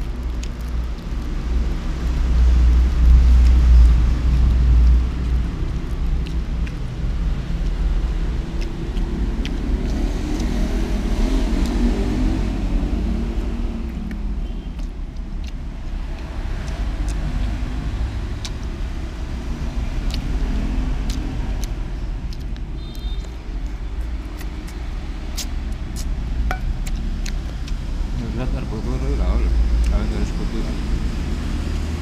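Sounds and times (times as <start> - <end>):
eating clicks and smacks: 0.0 - 32.0
low rumble of road traffic: 0.0 - 32.0.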